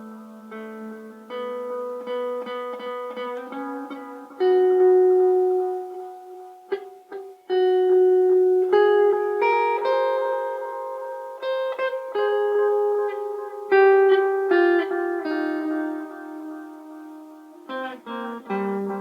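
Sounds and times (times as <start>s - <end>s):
electric guitar with delay: 0.0s - 19.0s.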